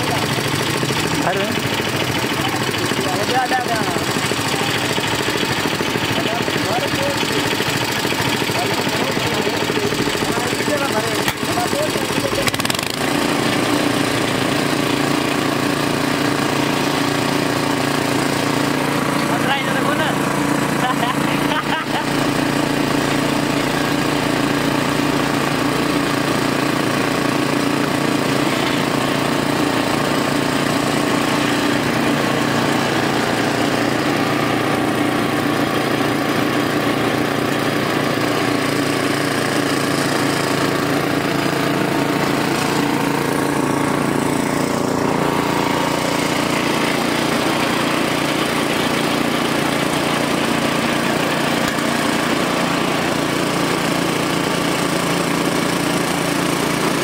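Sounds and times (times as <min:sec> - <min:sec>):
juice crusher motor running: 0:00.0 - 0:57.0.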